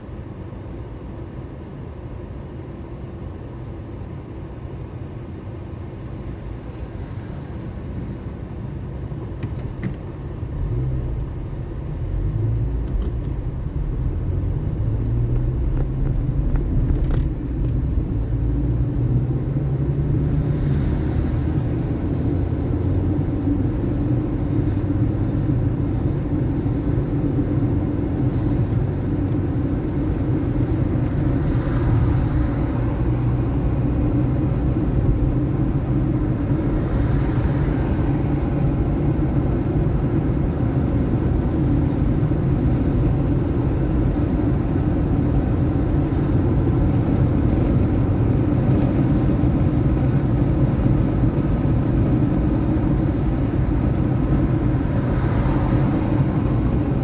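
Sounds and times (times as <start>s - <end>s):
car engine and tyre rumble: 0.0s - 57.0s
passing traffic: 0.0s - 57.0s.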